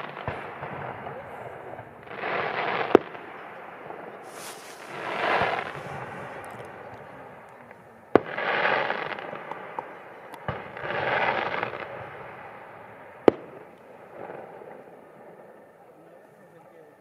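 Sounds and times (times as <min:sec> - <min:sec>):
fireworks bangs: 0:00.0 - 0:15.5.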